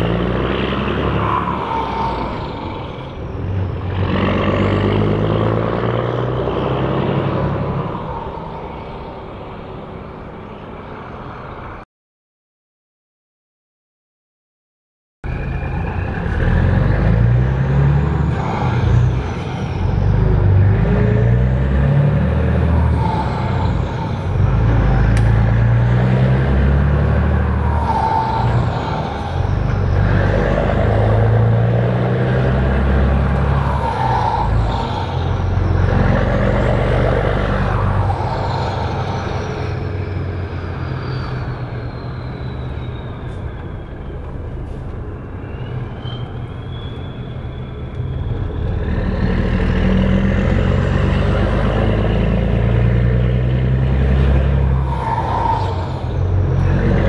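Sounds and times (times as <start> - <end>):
diesel truck engine revving: 0.0 - 10.0, 15.3 - 44.8, 47.6 - 57.0.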